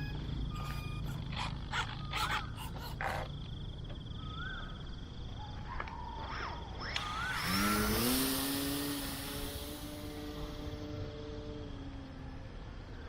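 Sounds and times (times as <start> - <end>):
model plane motor and propeller: 0.0 - 3.7, 6.2 - 13.0.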